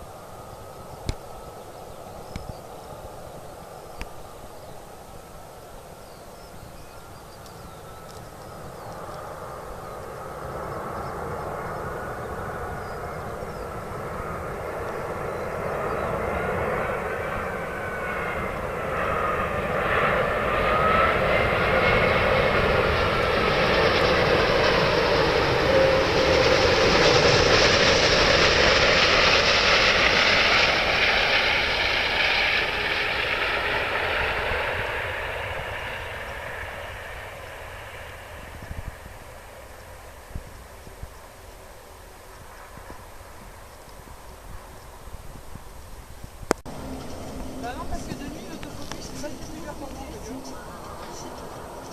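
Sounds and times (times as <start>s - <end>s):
jet engines passing by: 0.0s - 51.9s.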